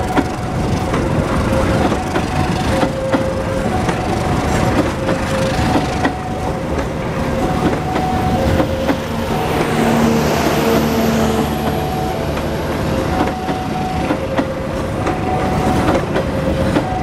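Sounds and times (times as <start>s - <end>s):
train rolling rumble: 0.0s - 17.0s
train wheels clacking over rail joints: 0.0s - 17.0s
two-tone electronic alarm: 0.0s - 17.0s.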